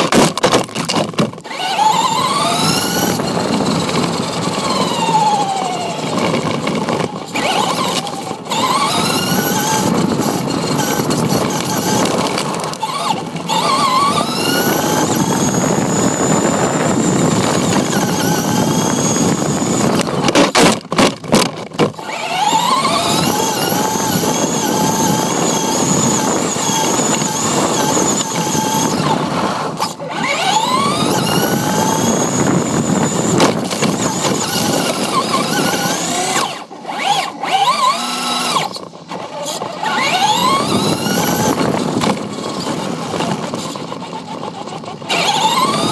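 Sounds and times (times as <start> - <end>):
tyres rumbling on asphalt: 0.0 - 45.9
rc car motor whining: 0.9 - 20.8, 21.7 - 45.9.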